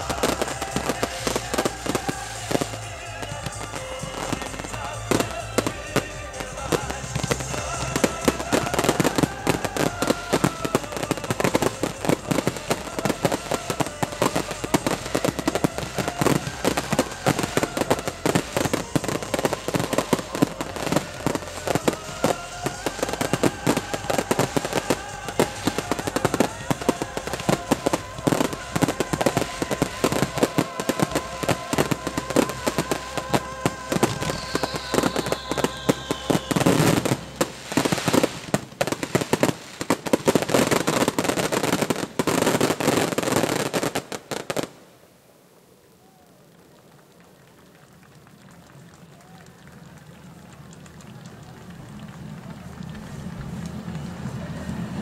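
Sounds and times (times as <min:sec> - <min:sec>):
falling firework whistle: 0:00.0 - 0:44.7
rapid fireworks bursts: 0:00.0 - 0:44.9, 0:48.7 - 0:55.0.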